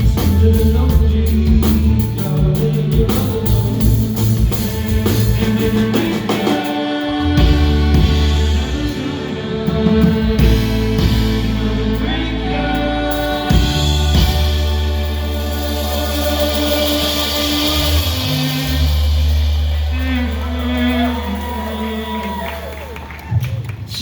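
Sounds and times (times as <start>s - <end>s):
person singing: 0.0s - 23.0s
sustained instrumental tones: 0.0s - 23.0s
bass: 0.0s - 24.0s
drums: 0.0s - 24.0s.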